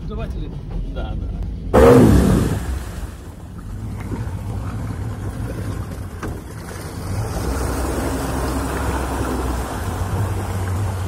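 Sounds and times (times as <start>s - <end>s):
wind: 0.0s - 11.0s
motorboat engine drone: 0.6s - 11.0s
water noise: 1.4s - 11.0s.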